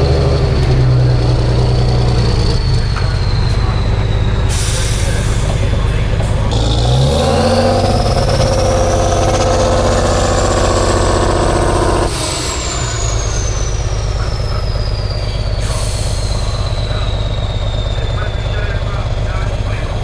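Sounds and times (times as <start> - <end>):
diesel truck engine under load: 0.0 - 20.0
high whistle: 1.6 - 19.6.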